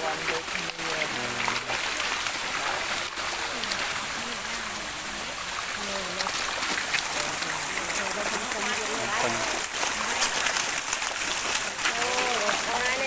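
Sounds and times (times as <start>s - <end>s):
fish splashing in water: 0.0s - 13.0s
people's voices: 0.0s - 13.0s.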